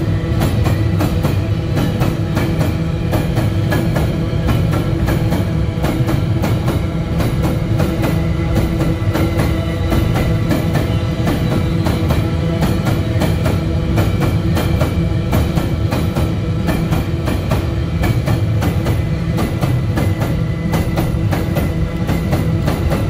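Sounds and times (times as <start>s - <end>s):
train wheels clicking over rail joints: 0.0s - 23.0s.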